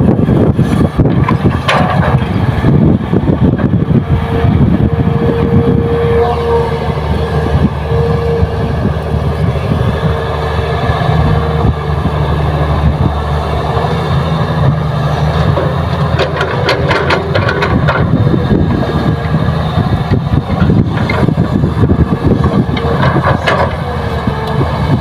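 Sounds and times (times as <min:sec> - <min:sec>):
excavator engine and hydraulics: 0:00.0 - 0:25.0.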